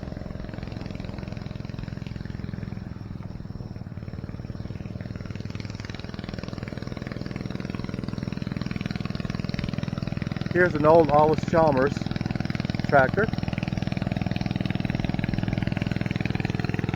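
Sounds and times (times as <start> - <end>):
tractor engine chugging: 0.0 - 16.9.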